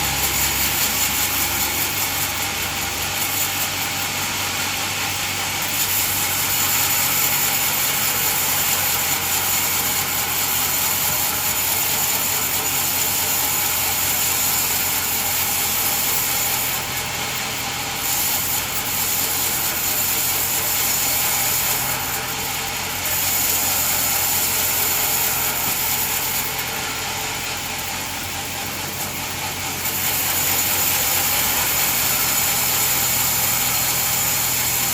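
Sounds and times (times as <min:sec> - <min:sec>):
sawmill machine running: 0:00.0 - 0:34.9.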